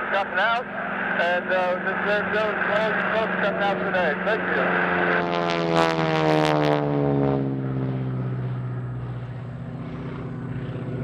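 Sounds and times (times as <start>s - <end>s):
propeller plane passing overhead: 0.0s - 11.0s.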